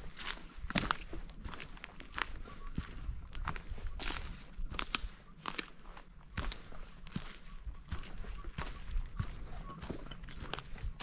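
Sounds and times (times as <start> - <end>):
crunching footsteps on trail: 0.0 - 11.0.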